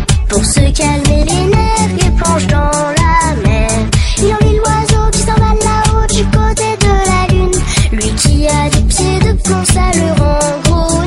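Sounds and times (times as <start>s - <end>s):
upbeat electronic pop music: 0.0s - 11.0s.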